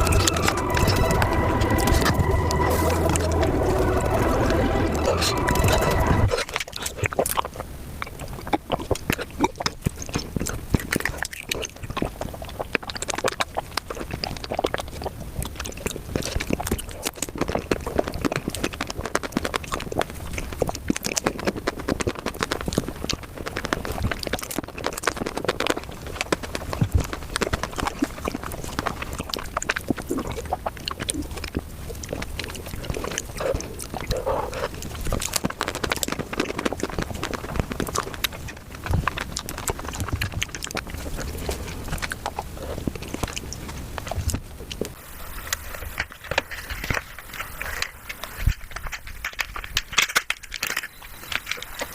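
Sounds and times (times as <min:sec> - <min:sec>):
chewing clicks and smacks: 0:06.3 - 0:51.9.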